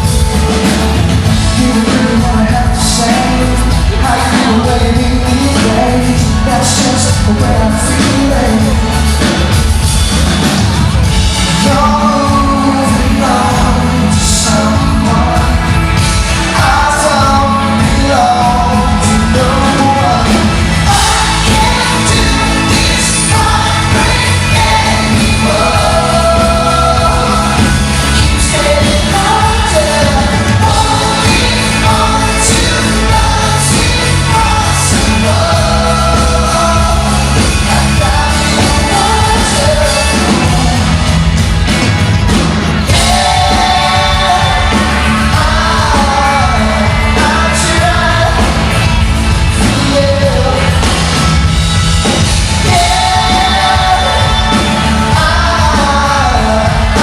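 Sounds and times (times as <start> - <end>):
lead singer singing: 0.0 - 57.0
pop-rock band playing: 0.0 - 57.0.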